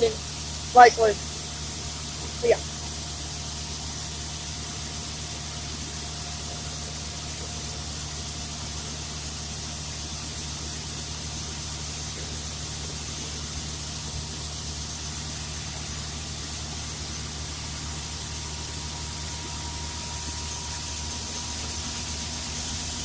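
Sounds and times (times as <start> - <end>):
steady hiss: 0.0 - 23.0
tractor engine running: 0.0 - 23.0.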